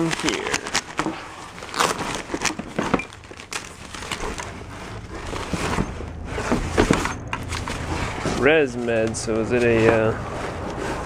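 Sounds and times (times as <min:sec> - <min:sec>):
items knocking and clicking: 0:00.0 - 0:11.0
rustling and crinkling: 0:00.0 - 0:11.0.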